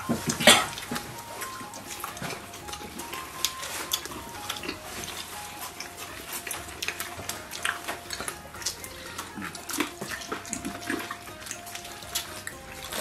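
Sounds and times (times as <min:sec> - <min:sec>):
soft background music: 0:00.0 - 0:13.0
wet chewing and lip-smacking: 0:00.0 - 0:13.0.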